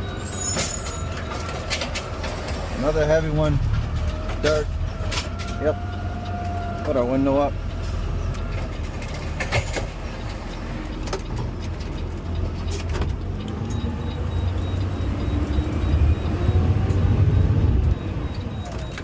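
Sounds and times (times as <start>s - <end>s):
diesel engine low rumble: 0.0s - 19.0s.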